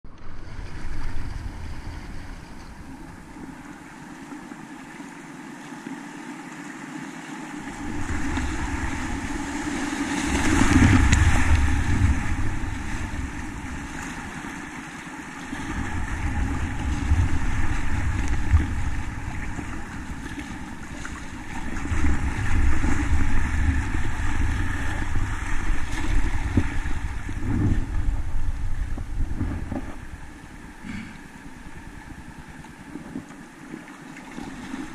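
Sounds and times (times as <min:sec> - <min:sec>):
wind buffeting on microphone: 0:00.1 - 0:04.6, 0:07.6 - 0:33.6
river water rushing and splashing: 0:00.1 - 0:34.9.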